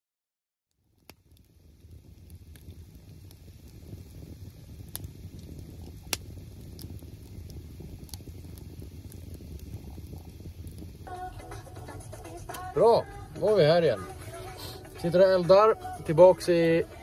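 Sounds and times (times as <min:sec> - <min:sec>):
burning wood crackling and popping: 0:00.7 - 0:17.0
campfire flames rumbling: 0:00.7 - 0:17.0.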